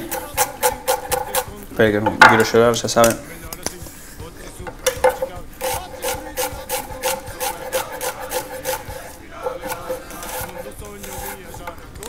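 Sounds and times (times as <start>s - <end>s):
knife slicing onion on wooden board: 0.0s - 3.8s, 4.7s - 12.0s.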